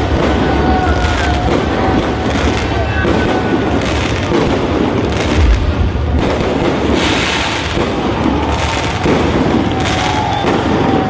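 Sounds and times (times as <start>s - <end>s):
deep firework boom: 0.0s - 11.0s
firework crackling: 0.0s - 11.0s
fireworks barrage: 0.0s - 11.0s.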